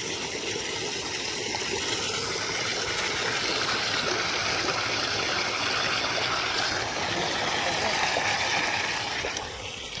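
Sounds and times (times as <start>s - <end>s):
propeller churning water: 0.0s - 10.0s.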